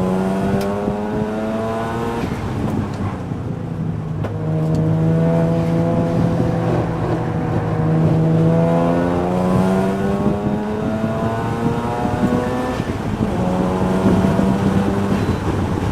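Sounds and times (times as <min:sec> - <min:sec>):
car engine accelerating: 0:00.0 - 0:15.9.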